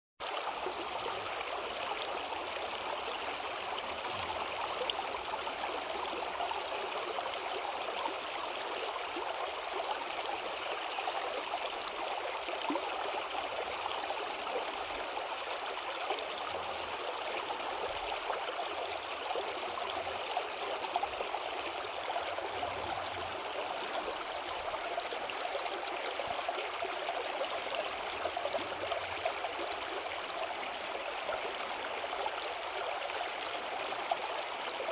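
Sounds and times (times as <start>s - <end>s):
river water flowing over rocks: 0.2s - 34.9s.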